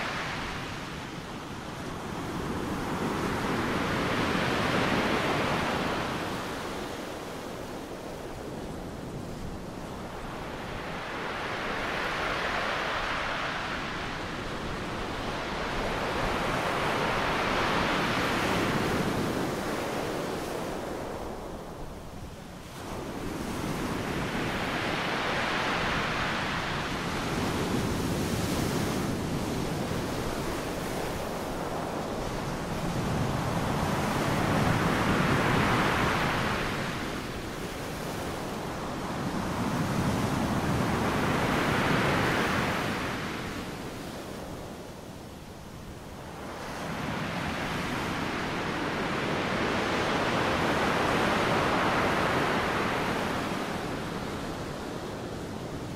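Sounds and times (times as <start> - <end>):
waves washing in: 0.0 - 55.9.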